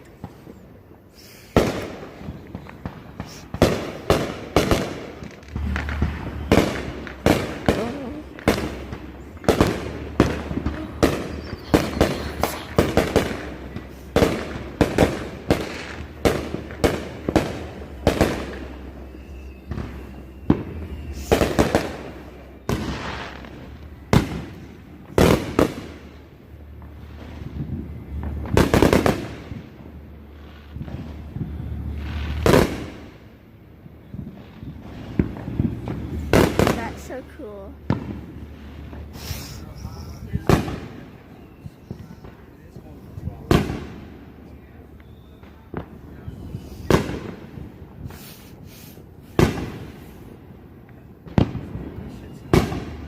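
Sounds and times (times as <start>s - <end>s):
fireworks banging: 0.0s - 53.0s.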